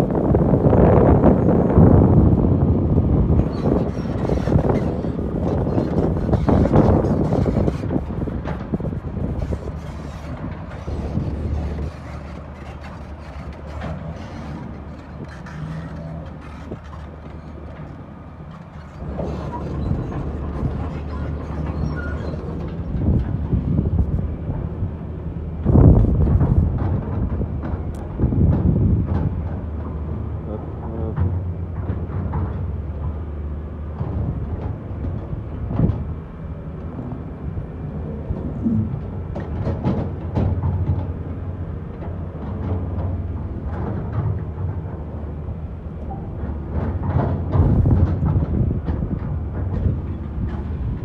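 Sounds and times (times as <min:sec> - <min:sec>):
diesel truck engines rumbling: 0:00.0 - 0:51.0.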